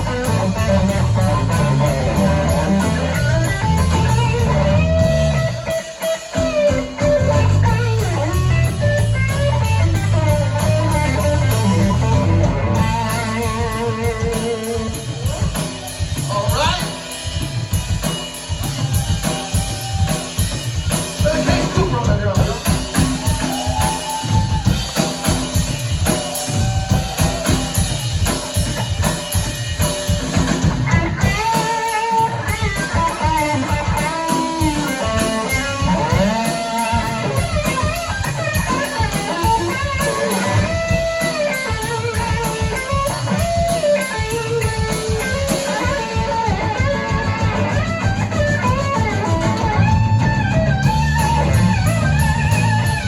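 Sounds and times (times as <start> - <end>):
bass guitar: 0.0 - 53.0
drum kit: 0.0 - 53.0
electric guitar lead: 0.0 - 53.0.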